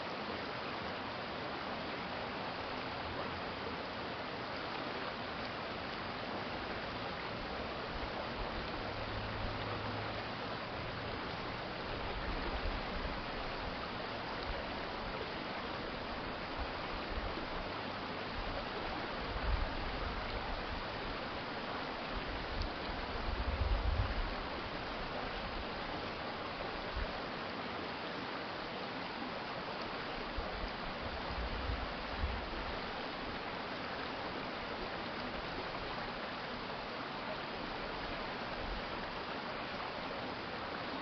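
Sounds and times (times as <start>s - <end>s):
stream flowing: 0.0s - 41.0s.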